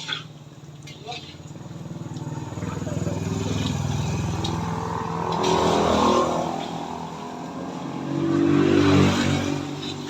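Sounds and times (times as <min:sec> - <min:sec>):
vehicle engine passing by: 0:01.5 - 0:10.0.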